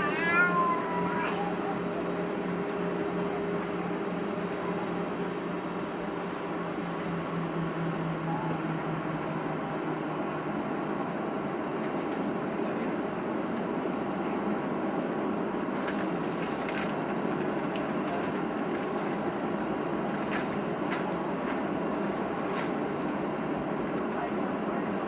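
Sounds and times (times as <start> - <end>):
aircraft cabin engine hum: 0.0 - 25.0.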